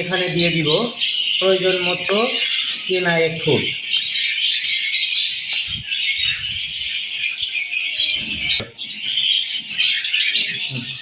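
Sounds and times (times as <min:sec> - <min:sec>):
aviary birds chirping: 0:00.0 - 0:11.0.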